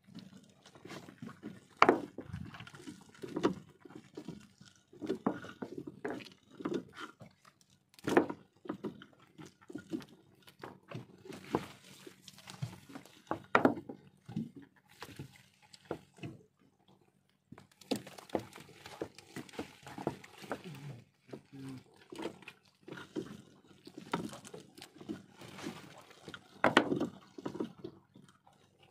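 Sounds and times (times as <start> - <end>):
wet net rustling and dripping: 0.2 - 6.4, 9.2 - 28.9.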